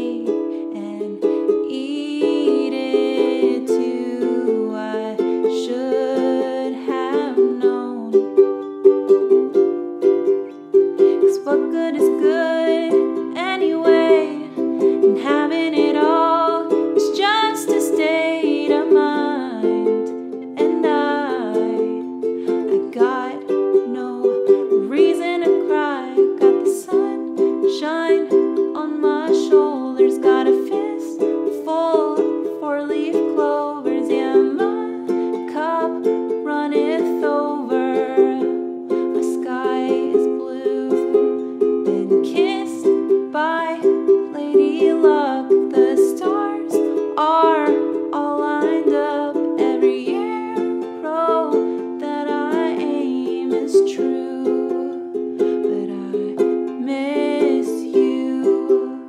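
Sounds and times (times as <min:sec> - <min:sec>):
strummed ukulele: 0:00.0 - 0:59.0
woman singing: 0:00.0 - 0:59.0.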